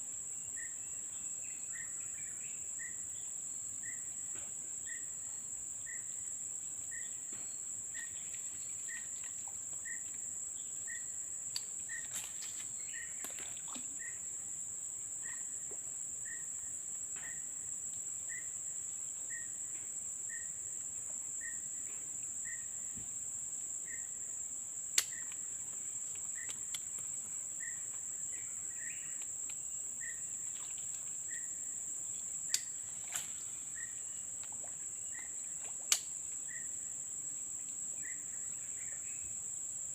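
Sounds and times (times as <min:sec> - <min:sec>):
insects droning high-pitched: 0:00.0 - 0:39.9.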